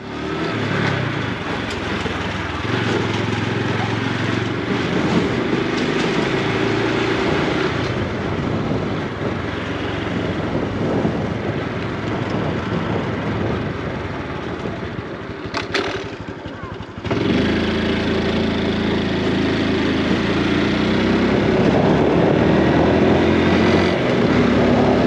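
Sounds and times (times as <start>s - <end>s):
motorcycle engine running: 0.0s - 25.0s
rushing road noise: 0.0s - 25.0s.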